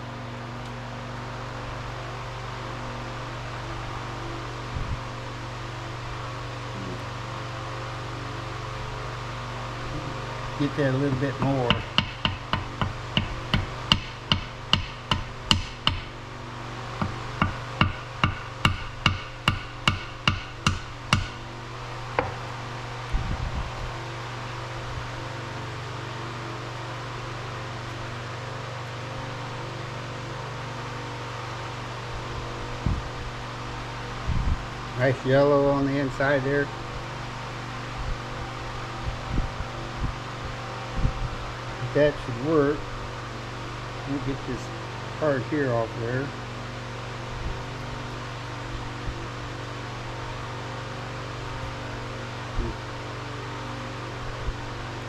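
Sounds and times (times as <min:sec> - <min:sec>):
electric fan humming: 0:00.0 - 0:55.0.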